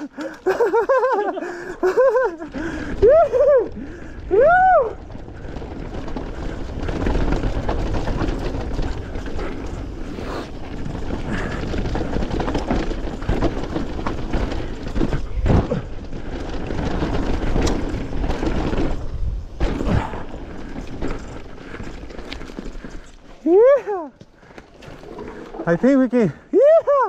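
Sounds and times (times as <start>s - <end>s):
bike clicks and rattles: 0.0s - 27.0s
bike tyres rolling on dirt: 0.0s - 27.0s.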